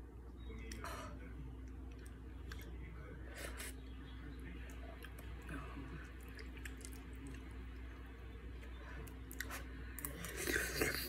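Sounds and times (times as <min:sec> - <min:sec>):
chewing and wet mouth sounds: 0:01.6 - 0:11.0.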